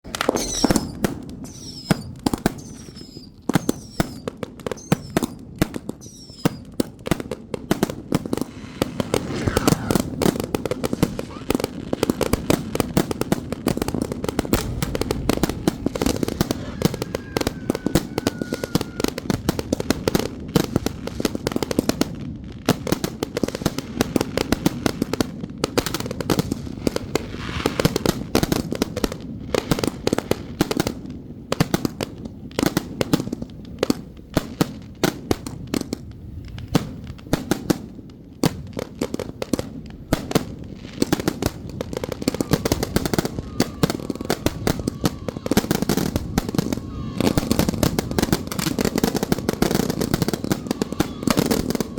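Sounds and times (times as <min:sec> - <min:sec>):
firecrackers banging: 0:00.1 - 0:30.1, 0:34.0 - 0:51.9.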